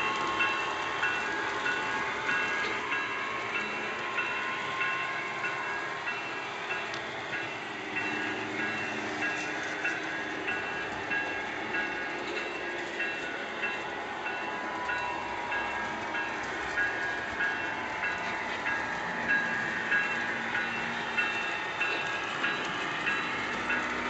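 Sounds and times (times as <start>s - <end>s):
model train clickety-clack: 0.0s - 24.0s.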